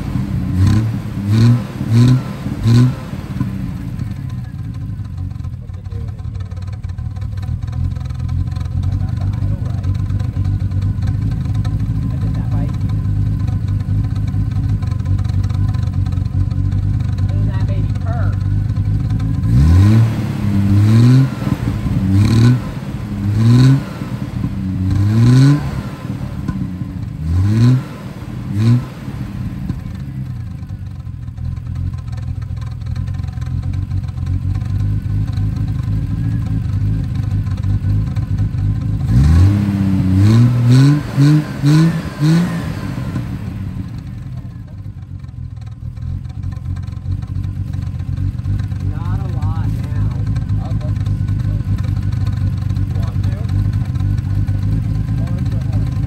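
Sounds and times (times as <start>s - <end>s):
car engine idling: 0.0s - 56.0s
car engine revving: 0.0s - 56.0s.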